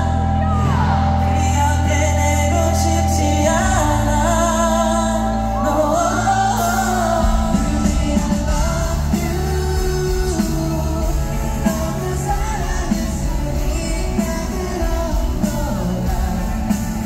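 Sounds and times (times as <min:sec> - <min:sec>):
man singing: 0:00.0 - 0:17.0
pop-rock band playing: 0:00.0 - 0:17.0.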